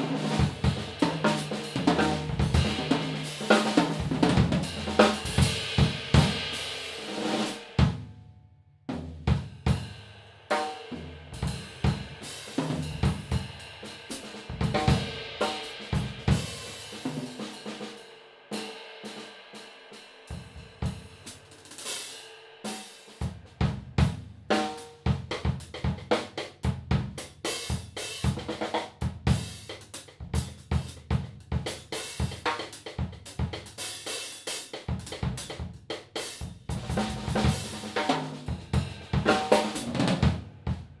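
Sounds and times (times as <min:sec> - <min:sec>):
drum kit playing a groove: 0:00.0 - 0:08.1, 0:08.9 - 0:18.0, 0:20.3 - 0:22.1, 0:22.7 - 0:41.0.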